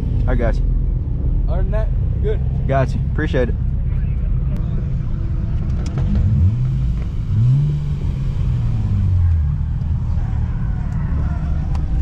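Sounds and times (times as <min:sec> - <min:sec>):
car engine revving: 0:00.0 - 0:12.0
low rumble: 0:00.0 - 0:12.0.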